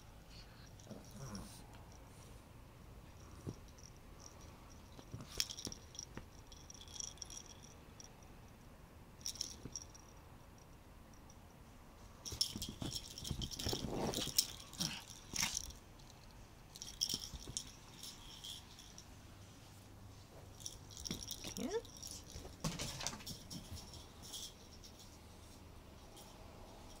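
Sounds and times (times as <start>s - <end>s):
small bell jingling: 0.6s - 2.2s, 3.1s - 8.5s, 9.2s - 19.2s, 20.5s - 25.2s.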